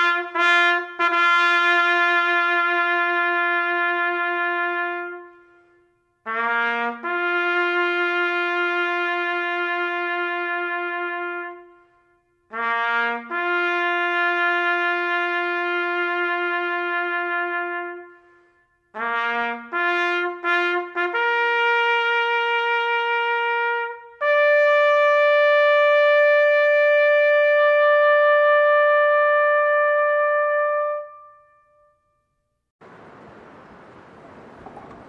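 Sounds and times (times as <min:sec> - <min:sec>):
solo trumpet bugle call: 0:00.0 - 0:31.9.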